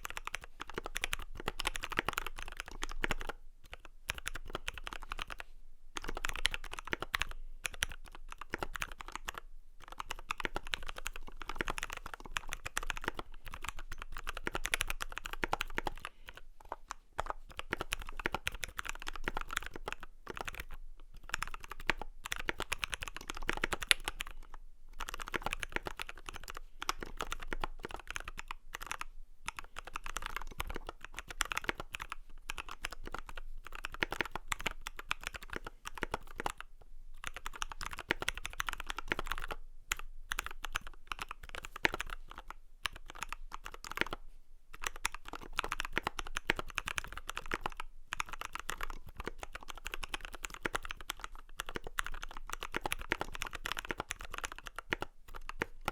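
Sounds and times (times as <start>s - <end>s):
mechanical keyboard typing: 0.0s - 55.9s.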